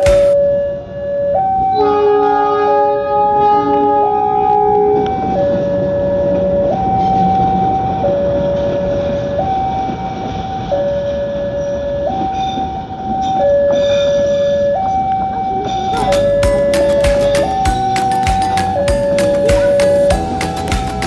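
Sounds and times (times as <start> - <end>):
two-tone crossing alarm: 0.0 - 21.0
passing train: 1.7 - 21.0.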